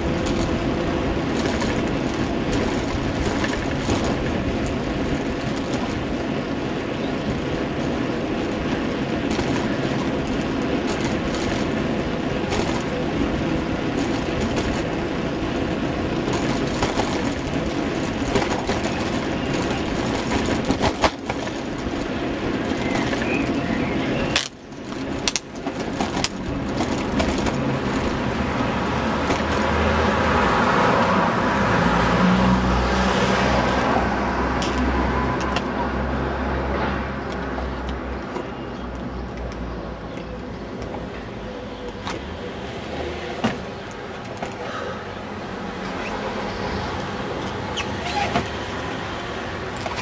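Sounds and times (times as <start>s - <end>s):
bike rattles and knocks: 0.0s - 31.8s, 36.5s - 50.0s
low engine rumble: 0.0s - 50.0s
passing motor traffic: 0.0s - 50.0s.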